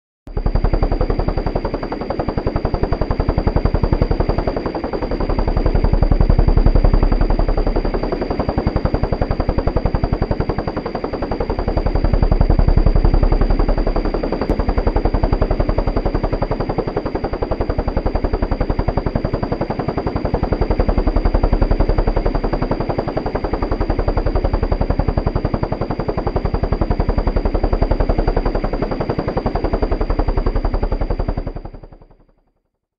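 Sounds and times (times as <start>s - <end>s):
helicopter rotor blades chopping: 0.3s - 32.3s.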